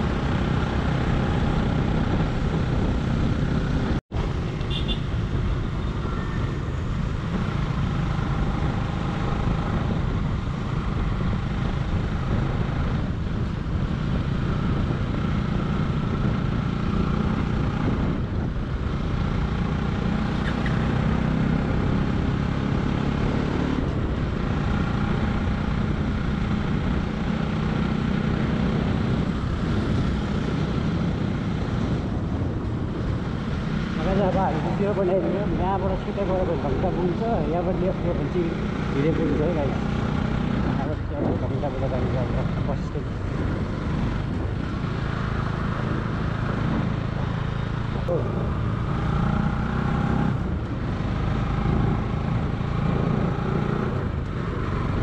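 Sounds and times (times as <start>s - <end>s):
motorcycle engine running: 0.0s - 55.0s
road and wind rush: 0.0s - 55.0s.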